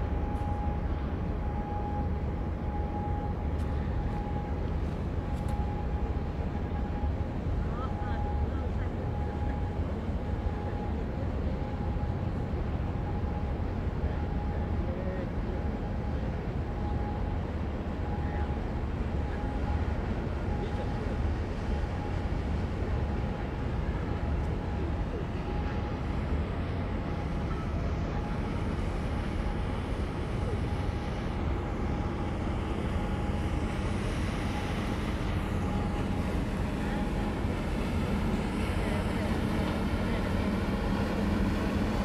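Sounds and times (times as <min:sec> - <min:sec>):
faint whine: 0:00.0 - 0:42.0
low rumble of marine engines: 0:00.0 - 0:42.0.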